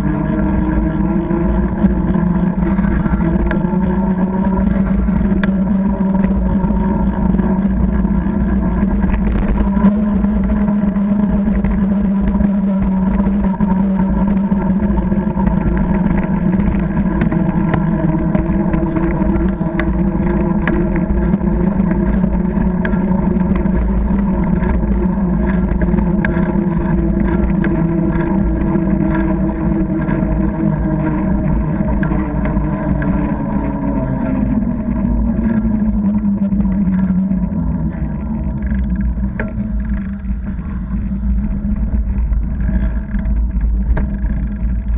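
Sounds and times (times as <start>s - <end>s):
bicycle riding rumble: 0.0s - 44.9s
hum: 0.0s - 44.9s
small clicks and rattles: 0.4s - 44.9s.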